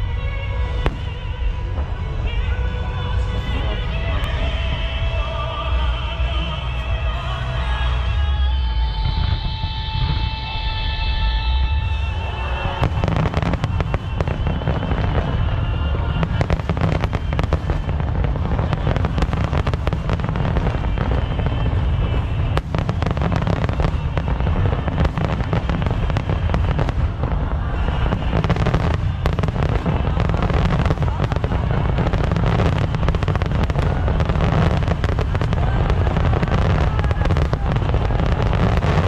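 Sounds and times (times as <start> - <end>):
fireworks crackling and bangs: 0.0 - 39.0
low rumble: 0.0 - 39.0
music: 0.0 - 39.0.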